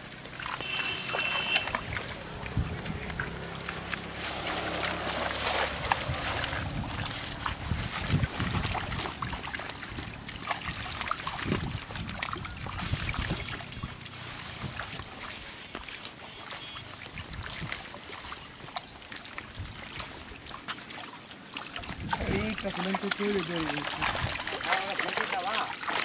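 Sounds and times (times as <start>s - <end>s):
fish splashing in water: 0.0s - 26.0s
water sloshing in a net: 0.0s - 26.0s.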